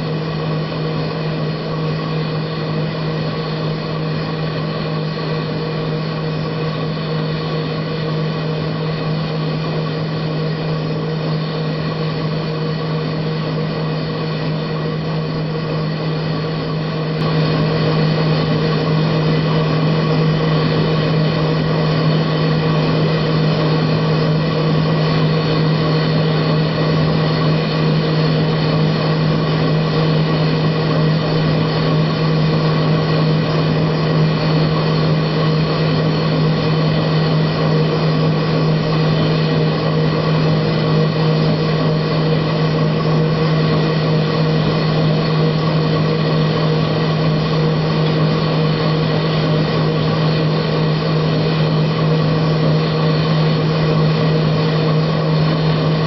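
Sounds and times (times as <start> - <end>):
metal lathe humming: 0.0 - 56.0.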